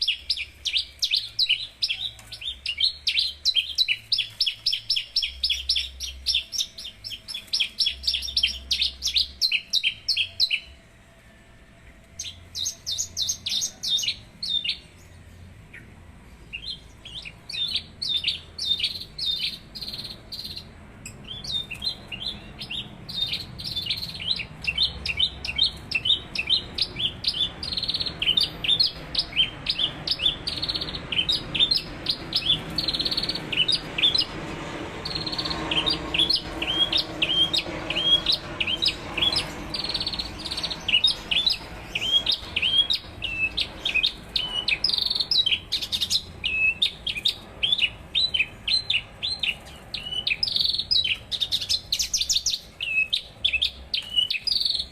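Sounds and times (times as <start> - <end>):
lark singing: 0.0 - 10.8, 16.5 - 34.4, 35.0 - 54.9.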